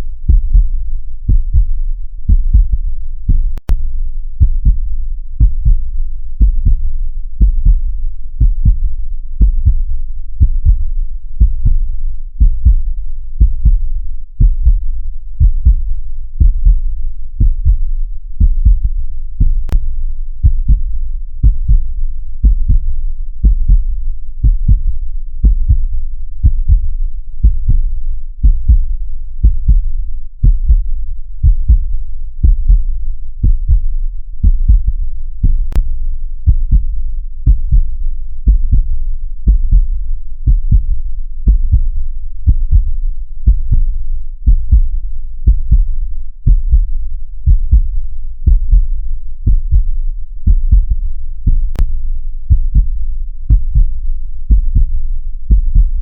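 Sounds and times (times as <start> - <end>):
heartbeat double thumps: 0.3 - 3.8, 4.4 - 7.8, 8.4 - 19.8, 20.4 - 35.9, 36.5 - 56.0.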